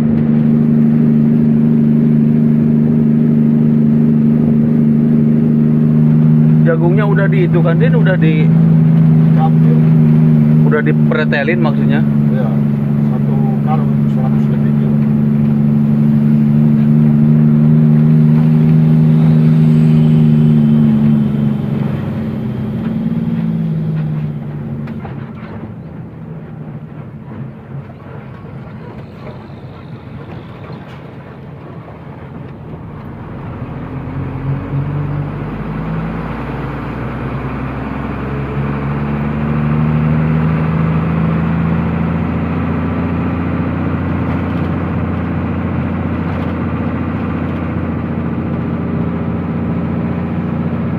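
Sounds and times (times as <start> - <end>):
truck engine running: 0.0 - 50.9.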